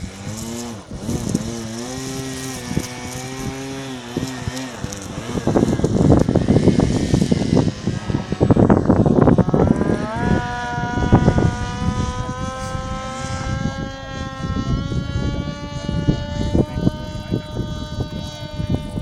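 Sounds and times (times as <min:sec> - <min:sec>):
model airplane motor whining: 0:00.0 - 0:19.0
wind buffeting microphone: 0:00.0 - 0:19.0.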